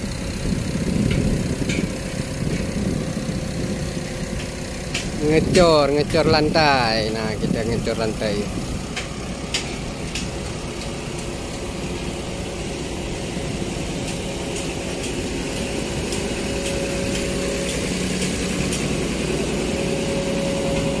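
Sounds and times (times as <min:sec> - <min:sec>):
diesel engine running at low revs: 0:00.0 - 0:21.0.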